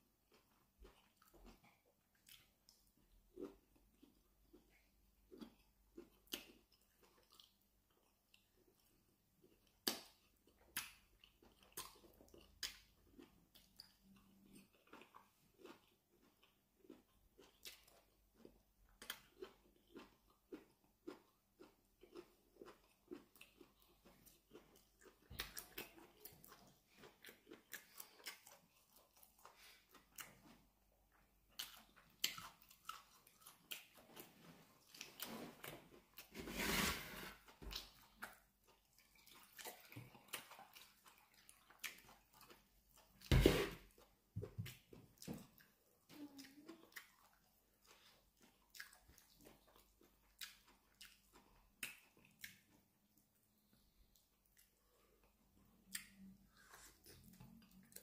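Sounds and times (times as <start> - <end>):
man chewing with mouth smacks: 0.2 - 36.4, 37.4 - 58.0.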